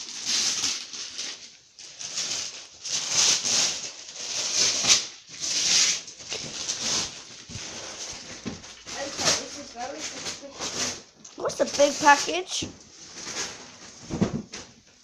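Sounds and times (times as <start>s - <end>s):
gift wrapping paper rustling: 0.0s - 14.8s.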